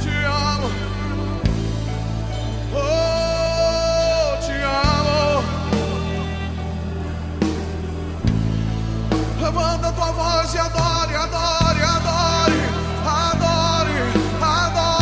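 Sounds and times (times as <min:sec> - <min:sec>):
slow instrumental gospel music: 0:00.0 - 0:15.0.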